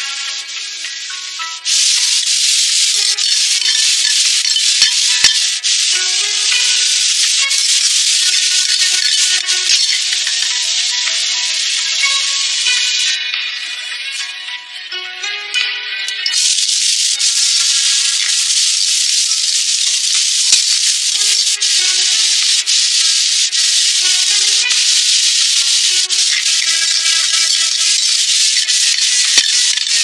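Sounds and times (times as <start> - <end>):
vegetables sizzling in hot oil: 0.0 - 13.2, 16.2 - 30.0.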